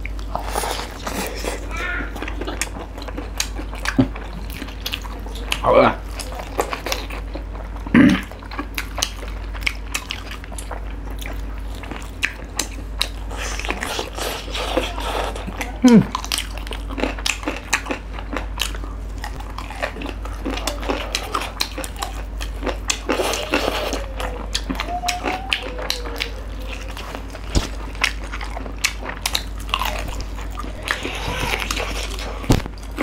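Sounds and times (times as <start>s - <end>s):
chewing and biting: 0.0s - 33.0s.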